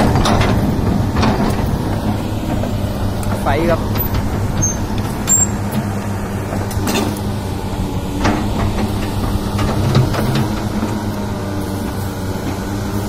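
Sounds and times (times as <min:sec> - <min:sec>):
excavator diesel engine running: 0:00.0 - 0:13.0
steel tracks clanking and crunching: 0:00.0 - 0:13.0.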